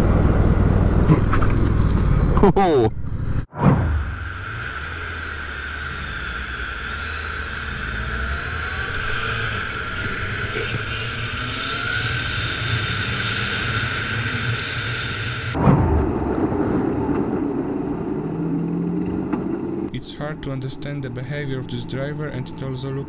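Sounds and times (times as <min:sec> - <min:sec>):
motorcycle engine: 0:03.5 - 0:23.0.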